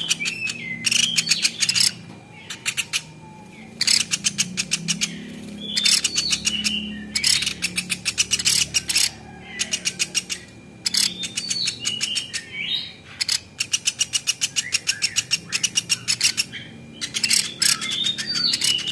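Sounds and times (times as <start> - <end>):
bird chipping rapidly: 0.0 - 18.9
bird whistled notes: 0.0 - 18.9.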